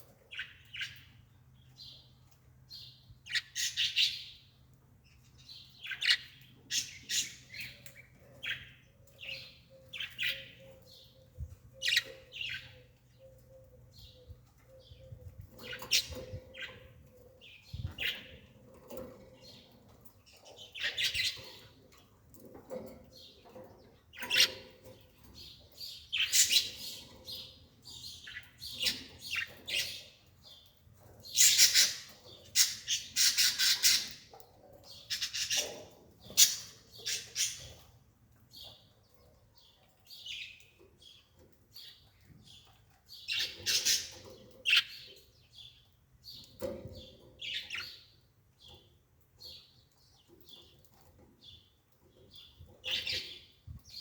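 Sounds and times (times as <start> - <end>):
birds chirping and squawking: 0.0 - 54.0.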